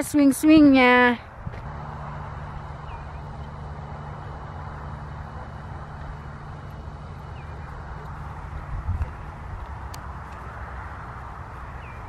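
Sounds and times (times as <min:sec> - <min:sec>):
low engine hum: 0:00.0 - 0:12.0
outdoor noise: 0:00.0 - 0:12.0.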